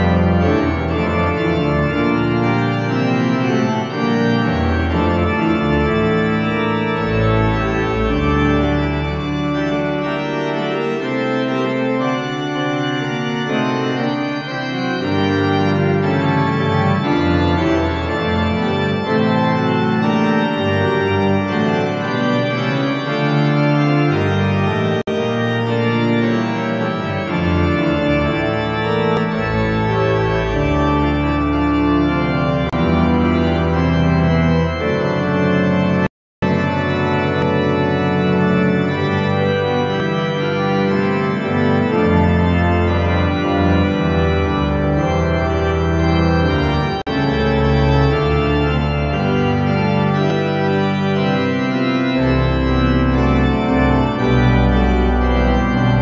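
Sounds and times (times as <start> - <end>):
deep organ pedal bass notes: 0.0 - 56.0
pipe organ chords: 0.0 - 56.0.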